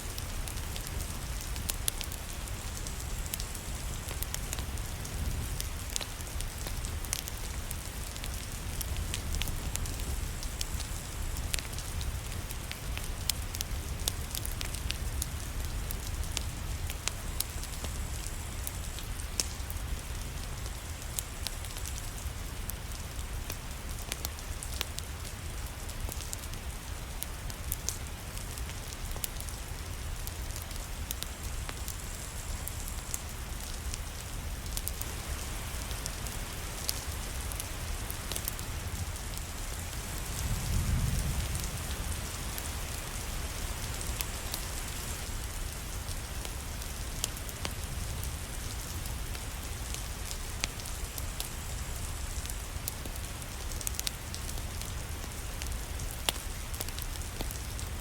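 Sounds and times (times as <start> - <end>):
rain falling: 0.0 - 58.0
wood fire crackling: 0.0 - 58.0.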